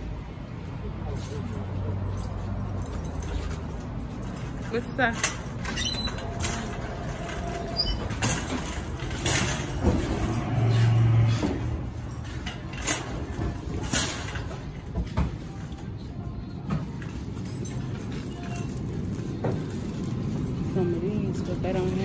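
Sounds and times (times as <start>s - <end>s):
cart clanks: 0.0s - 22.0s
shopping cart rattling over concrete: 0.0s - 22.0s.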